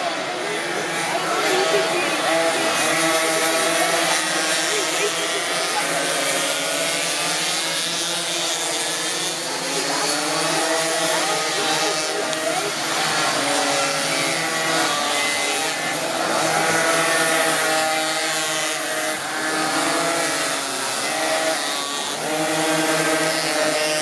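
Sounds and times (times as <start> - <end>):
small engines buzzing at high revs: 0.0 - 24.0.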